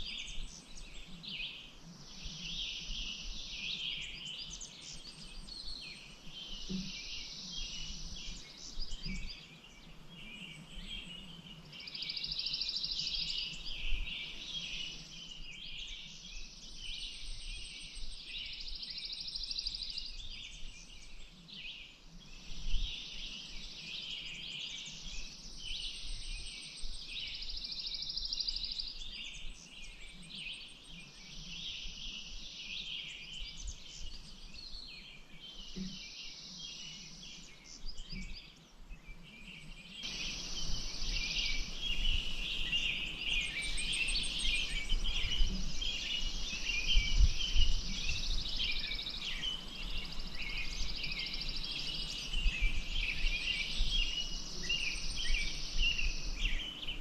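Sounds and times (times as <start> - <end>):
background hiss: 0.0 - 57.0
small birds chirping and singing: 0.0 - 57.0.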